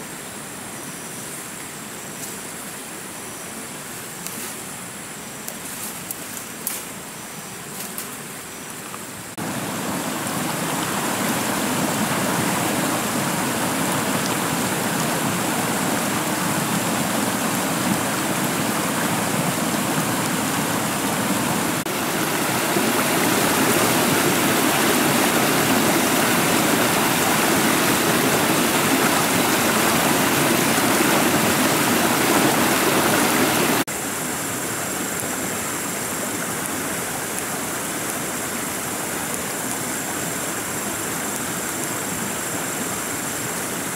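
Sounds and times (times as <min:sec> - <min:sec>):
stream rushing over stones: 0:07.7 - 0:43.9.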